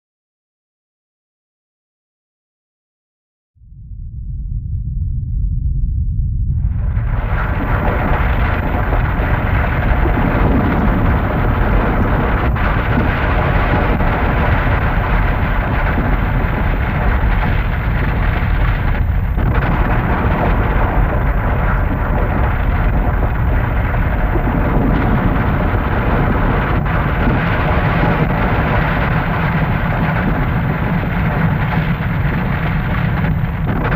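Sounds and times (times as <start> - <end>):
deep earthquake rumbling roar: 3.6 - 33.9.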